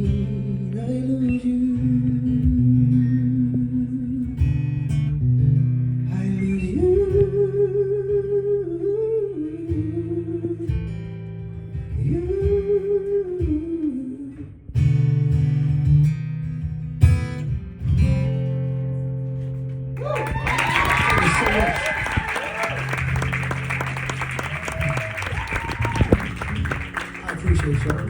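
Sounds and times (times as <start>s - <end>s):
acoustic guitar chords: 0.0s - 20.0s, 20.6s - 28.0s.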